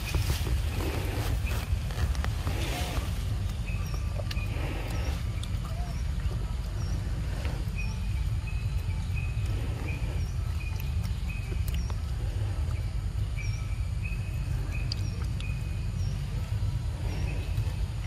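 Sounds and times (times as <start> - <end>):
monkey chewing fruit: 0.0 - 18.0
steady low rumble: 0.0 - 18.0.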